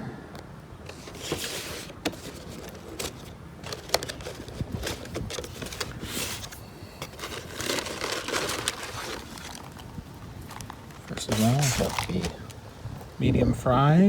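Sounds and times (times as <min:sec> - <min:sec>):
cardboard box rustling: 0:00.9 - 0:12.6.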